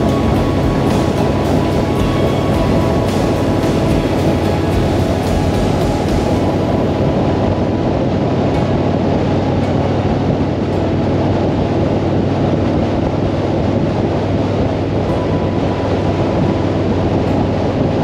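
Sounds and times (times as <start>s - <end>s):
motorcycle engine cruising: 0.0s - 18.0s
wind rush on microphone: 0.0s - 18.0s.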